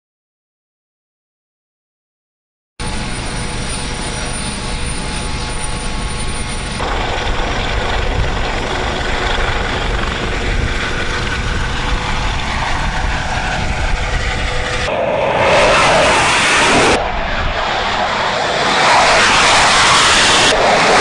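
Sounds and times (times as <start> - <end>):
helicopter rotor and turbine: 2.8 - 21.0.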